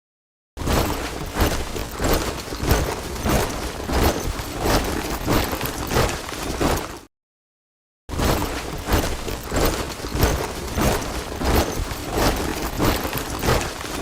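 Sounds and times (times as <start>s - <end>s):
soldiers marching in step: 0.7s - 7.1s, 8.3s - 14.0s.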